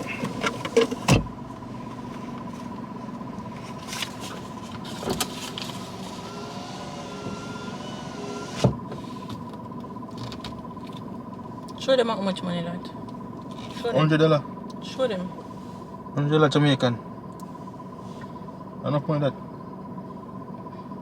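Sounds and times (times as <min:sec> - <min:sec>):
low vehicle hum: 0:00.0 - 0:21.0.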